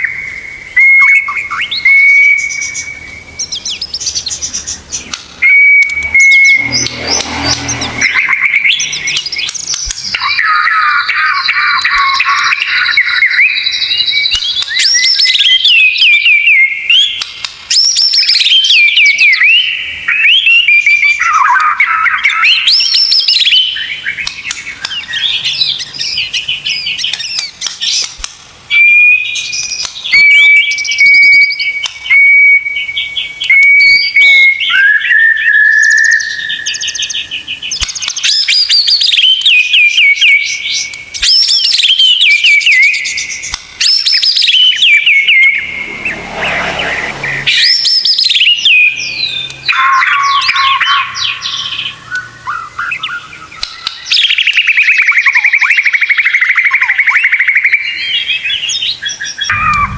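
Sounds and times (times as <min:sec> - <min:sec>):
songbird whistling and trilling: 0:00.0 - 0:46.6, 0:47.2 - 0:59.9.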